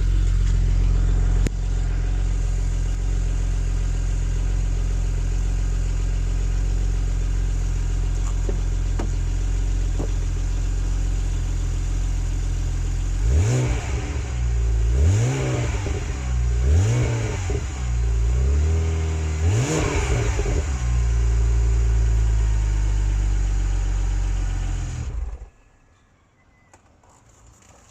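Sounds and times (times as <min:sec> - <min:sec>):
car engine idling and revving: 0:00.0 - 0:25.6.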